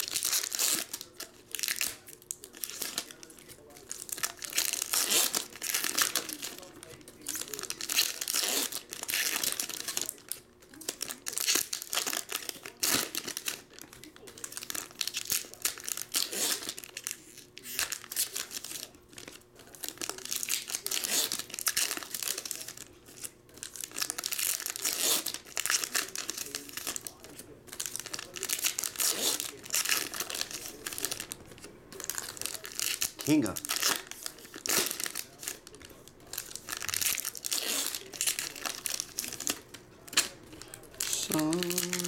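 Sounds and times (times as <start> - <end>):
foil wrappers tearing and crinkling: 0.0 - 42.0.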